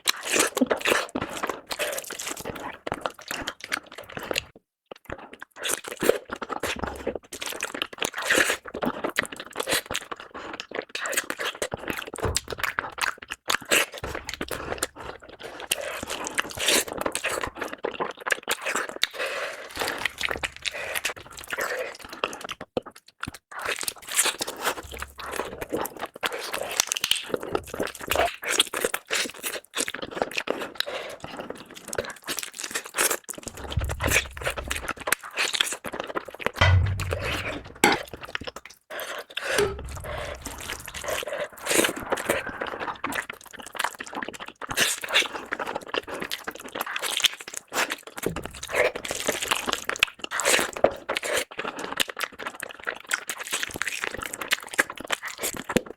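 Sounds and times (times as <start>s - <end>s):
chewing and crunching food: 0.0s - 35.8s, 42.2s - 55.9s.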